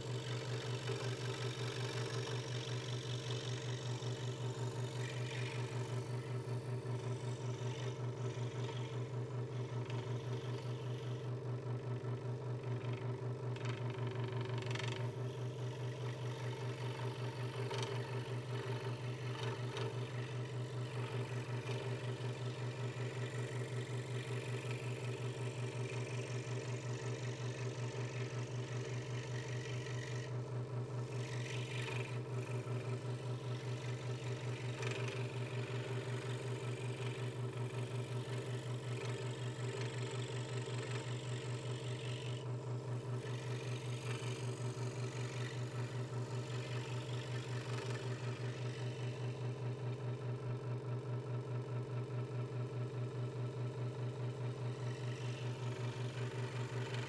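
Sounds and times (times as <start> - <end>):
scroll saw cutting wood: 0.0 - 11.3, 12.6 - 50.3, 54.1 - 57.0.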